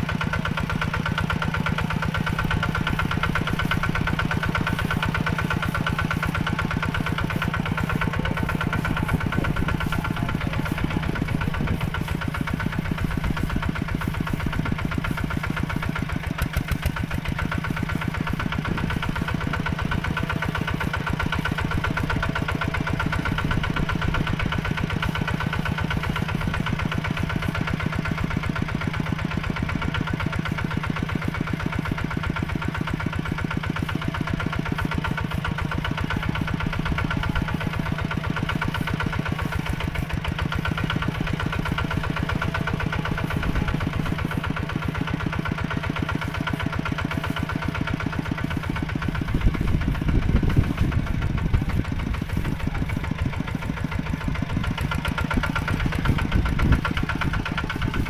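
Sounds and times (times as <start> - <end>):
tractor engine chugging: 0.0 - 58.0.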